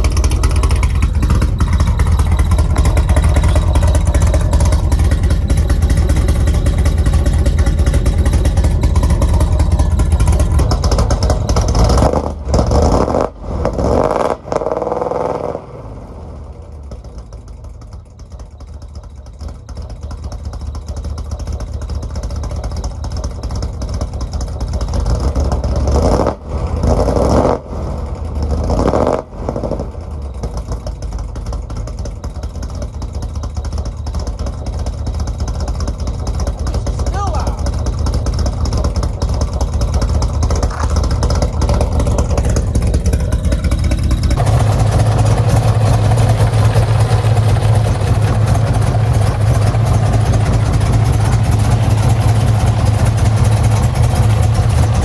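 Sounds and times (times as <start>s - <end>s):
engine revving: 0.0s - 17.4s, 24.8s - 32.6s, 35.4s - 55.0s
loud car engine rough idle: 0.0s - 55.0s.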